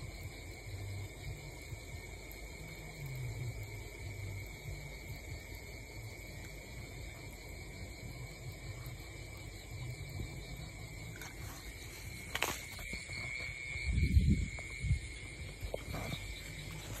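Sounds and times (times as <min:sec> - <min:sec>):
night insects droning: 0:00.0 - 0:17.0.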